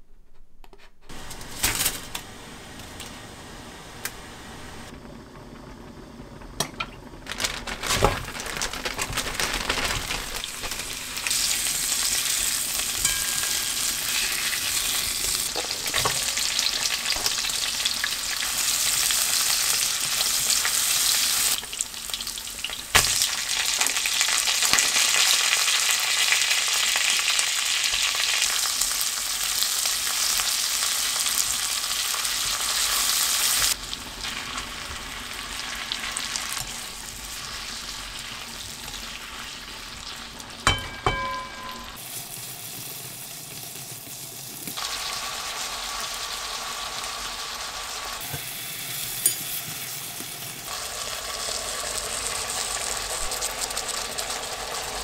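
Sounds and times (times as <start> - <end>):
food sizzling in a pan: 10.4 - 55.0.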